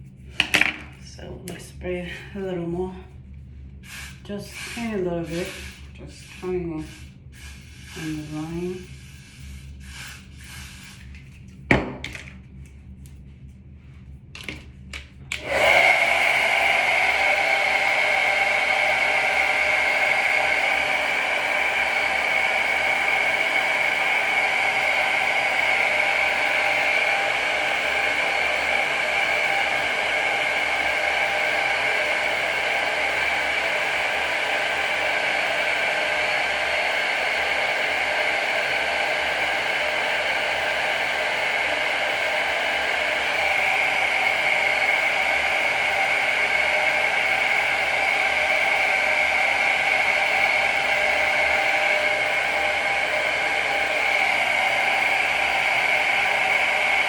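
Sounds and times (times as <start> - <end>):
hair dryer running: 0.4 - 3.0, 3.8 - 12.4, 15.3 - 57.0.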